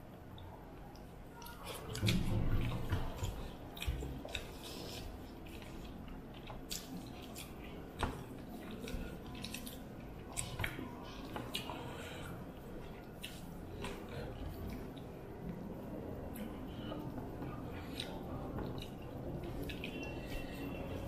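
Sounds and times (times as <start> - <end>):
chewing: 0.4 - 15.6, 16.2 - 21.0.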